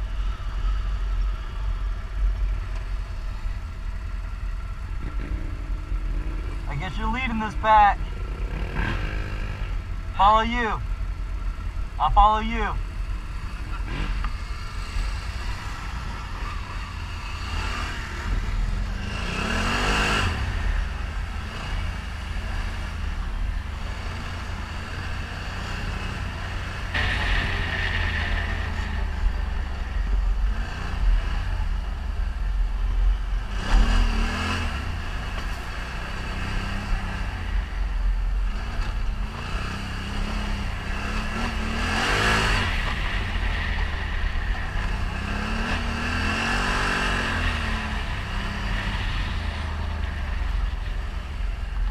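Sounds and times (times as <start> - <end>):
atv engine revving: 2.3 - 51.9.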